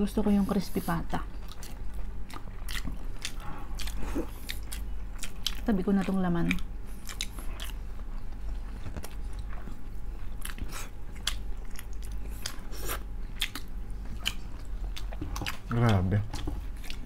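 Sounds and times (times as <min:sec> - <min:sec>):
chewing crispy fried pork: 0:00.2 - 0:17.0.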